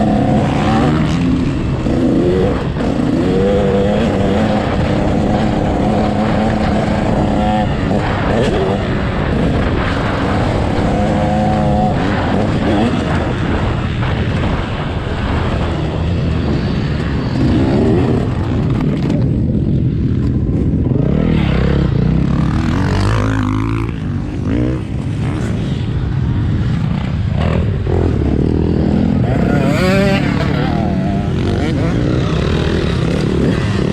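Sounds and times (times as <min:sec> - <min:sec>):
dirt bike engine revving: 0:00.0 - 0:19.2, 0:20.9 - 0:33.9.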